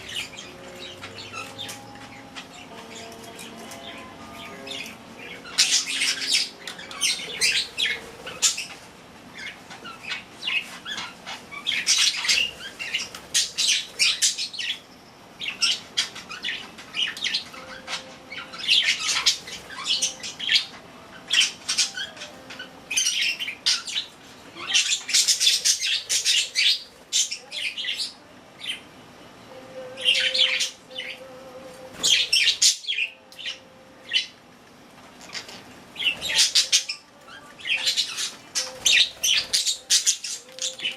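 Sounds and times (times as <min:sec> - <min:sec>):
budgerigars chirping: 0:00.0 - 0:28.8, 0:32.0 - 0:34.4, 0:35.2 - 0:40.9.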